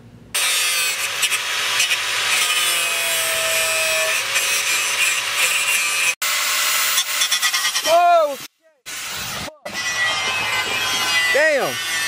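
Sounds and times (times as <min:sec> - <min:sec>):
power tool grinding metal: 0:00.4 - 0:08.0, 0:08.9 - 0:12.0.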